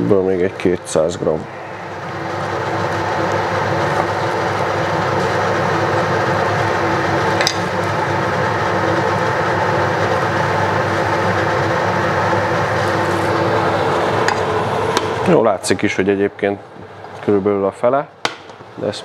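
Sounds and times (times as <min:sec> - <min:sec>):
fan running: 0:00.0 - 0:19.0.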